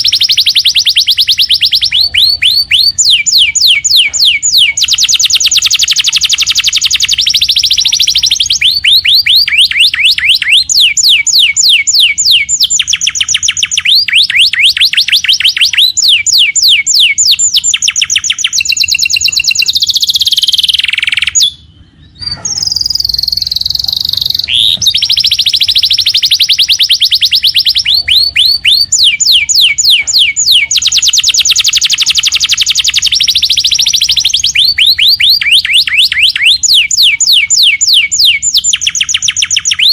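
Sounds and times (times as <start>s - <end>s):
canary singing in rapid trills: 0.0s - 39.9s.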